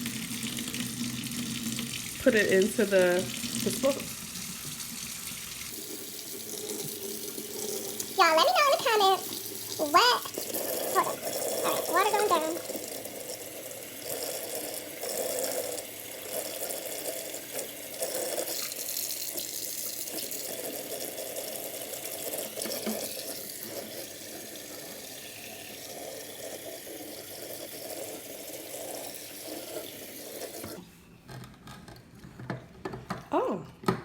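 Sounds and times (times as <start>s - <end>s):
faucet water running into sink: 0.0s - 30.8s.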